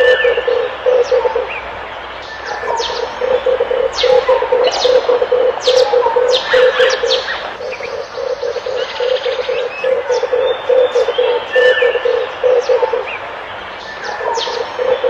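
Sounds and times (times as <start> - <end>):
dove cooing: 0.0 - 1.7, 2.4 - 13.2, 14.0 - 15.0
small birds chirping: 0.0 - 15.0.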